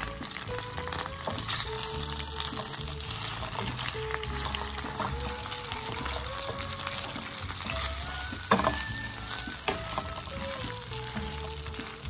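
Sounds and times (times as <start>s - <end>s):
background music with melody: 0.0s - 12.0s
chicken wings sizzling in oil: 0.0s - 12.0s.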